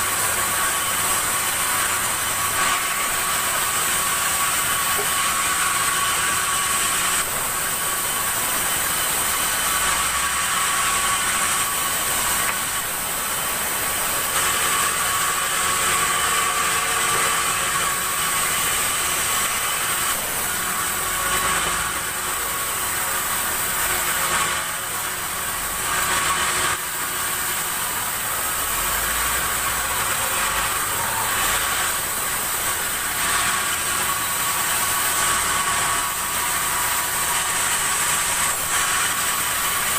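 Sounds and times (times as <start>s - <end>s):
high-pitched saw whine: 0.0s - 39.9s
sawmill machinery running: 0.0s - 39.9s.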